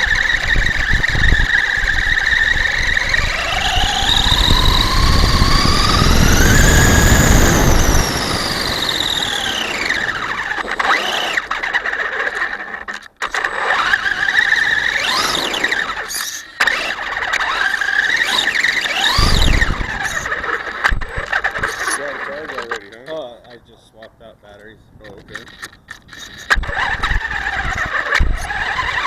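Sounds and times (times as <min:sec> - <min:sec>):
electric motor whining: 0:00.0 - 0:23.0, 0:25.4 - 0:29.0
tyre and ground rumble: 0:00.0 - 0:24.1.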